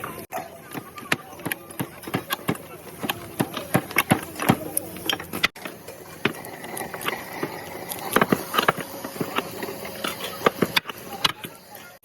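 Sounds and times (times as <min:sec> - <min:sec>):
sharp knocks and clicks: 0:00.7 - 0:11.6.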